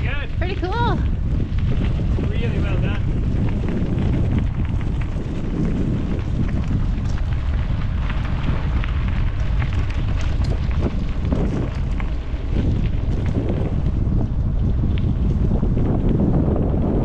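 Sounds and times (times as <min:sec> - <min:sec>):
wind buffeting microphone: 0:00.0 - 0:17.0
bike clicks and rattles: 0:01.0 - 0:17.0.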